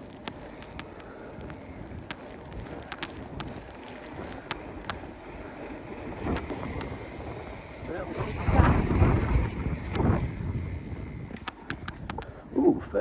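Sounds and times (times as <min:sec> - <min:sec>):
sharp ticks: 0:00.0 - 0:05.2, 0:06.2 - 0:08.6, 0:09.2 - 0:12.4
wind rumble on microphone: 0:00.0 - 0:13.0.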